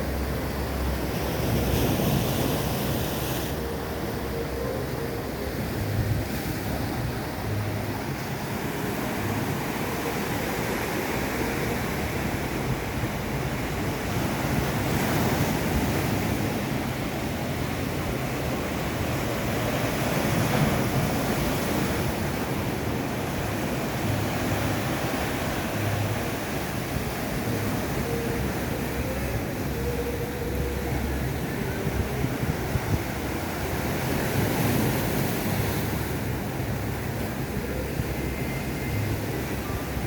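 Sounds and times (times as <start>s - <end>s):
ocean waves breaking: 0.0s - 40.0s.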